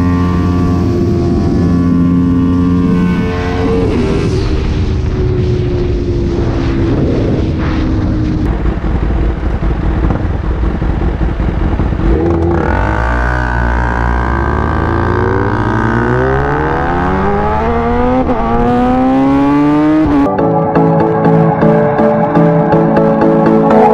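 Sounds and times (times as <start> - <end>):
wind noise: 0.0 - 20.3
motorcycle engine accelerating: 0.0 - 23.9.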